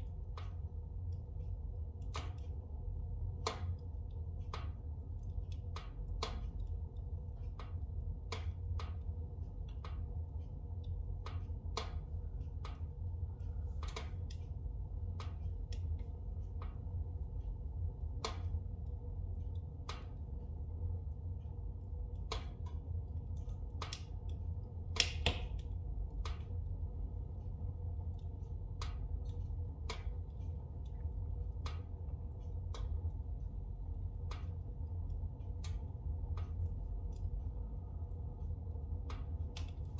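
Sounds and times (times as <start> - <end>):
crackles and pops of fire: 0.0 - 39.9
logs burning in a fireplace: 0.0 - 39.9.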